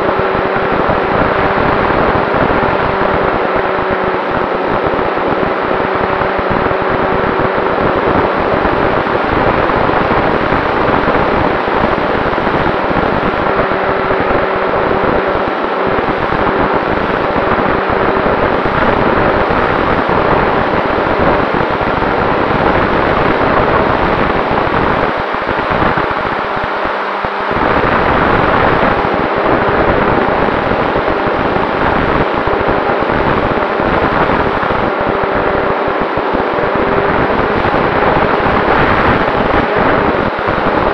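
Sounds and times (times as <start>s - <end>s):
wind rush on microphone: 0.0s - 40.9s.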